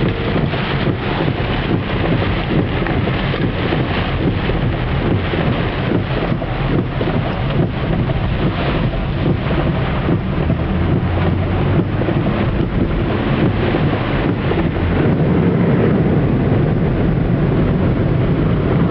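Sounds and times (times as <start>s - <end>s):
heavy rain rushing: 0.0s - 18.9s
water noise around car: 0.0s - 18.9s.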